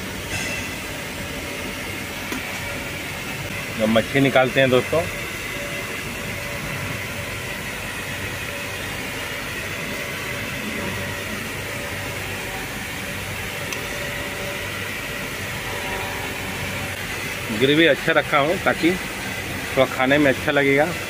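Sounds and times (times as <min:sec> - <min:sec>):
faint constant whine: 0:00.0 - 0:21.0
mechanical hum and hiss: 0:00.0 - 0:21.0.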